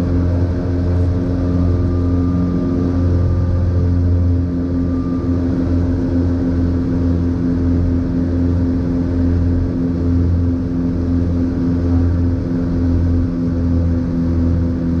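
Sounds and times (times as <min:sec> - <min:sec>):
aircraft engines droning in cabin: 0:00.0 - 0:15.0.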